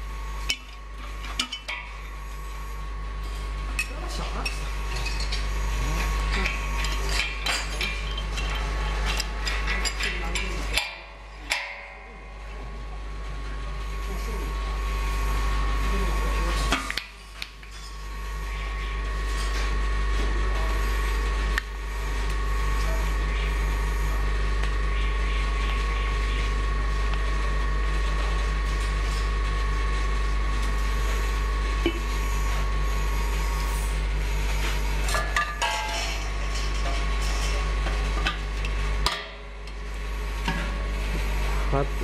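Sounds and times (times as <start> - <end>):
machine humming with thin whine: 0.0 - 42.0.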